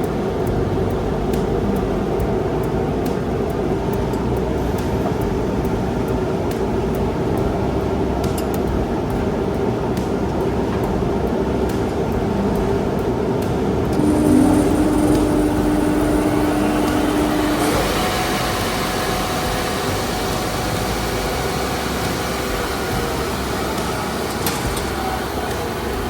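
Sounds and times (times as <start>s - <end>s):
bright hiss: 0.0s - 26.0s
woodworking machine running: 0.0s - 26.0s.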